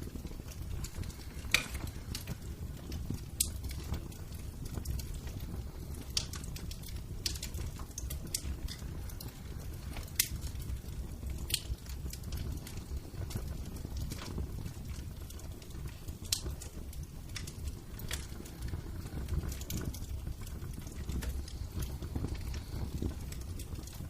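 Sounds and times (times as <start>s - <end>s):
fire crackles and pops: 0.0s - 24.0s
fire low rumble: 0.0s - 24.0s.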